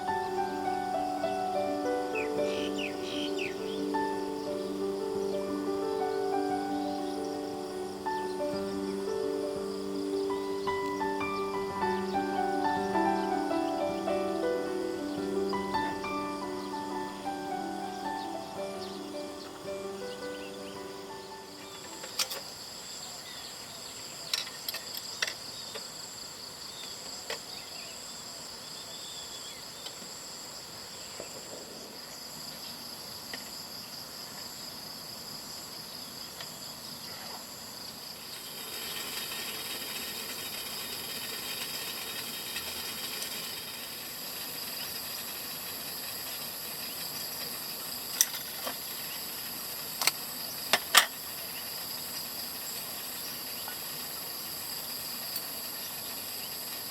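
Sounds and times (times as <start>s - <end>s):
crickets and insects chirping: 0.0s - 56.9s.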